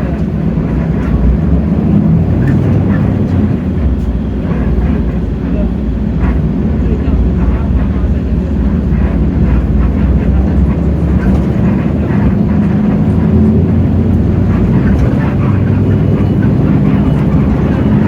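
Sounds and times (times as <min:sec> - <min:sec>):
bus diesel engine drone: 0:00.0 - 0:18.0.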